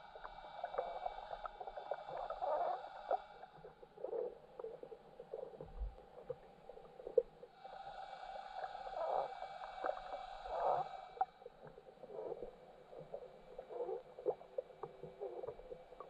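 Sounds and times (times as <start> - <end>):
faint underwater water noise: 0.0 - 16.0.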